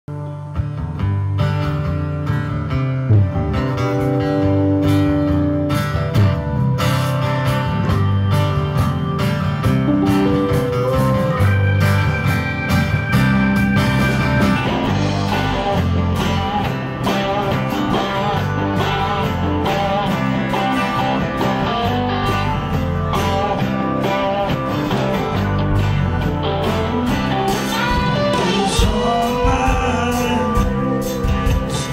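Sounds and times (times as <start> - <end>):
bass guitar: 0.0 - 31.9
guitars: 0.1 - 31.9
live band playing: 0.2 - 31.9
drums keeping a beat: 1.4 - 31.9.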